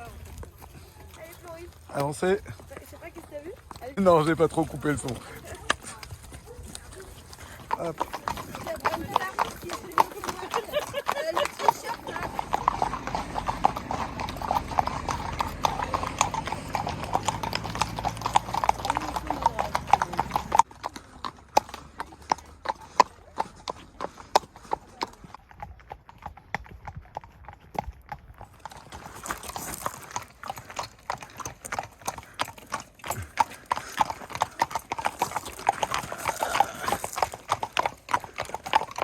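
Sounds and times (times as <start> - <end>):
horse hooves clip-clopping: 0.0 - 39.0.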